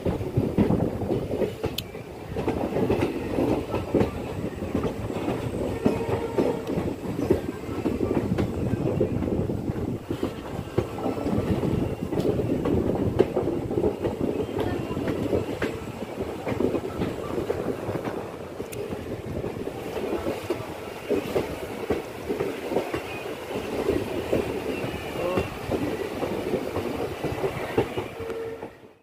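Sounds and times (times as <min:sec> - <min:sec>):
train wheels clattering: 0:00.0 - 0:29.0.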